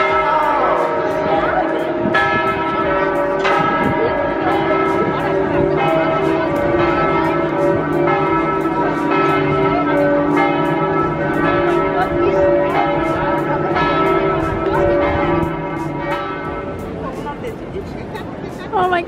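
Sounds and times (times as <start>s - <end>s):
large bell struck repeatedly: 0.0s - 17.6s.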